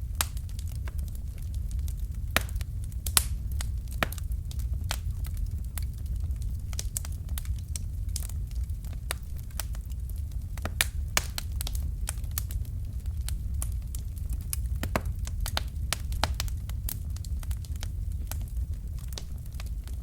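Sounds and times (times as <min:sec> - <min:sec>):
fire popping and snapping: 0:00.0 - 0:20.0
steady low rumble: 0:00.0 - 0:20.0
wood fire crackling: 0:00.0 - 0:20.0.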